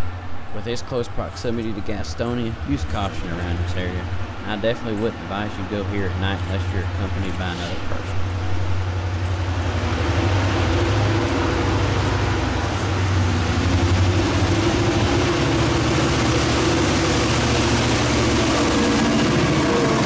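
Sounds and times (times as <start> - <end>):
diesel locomotive engines droning: 0.0 - 20.0.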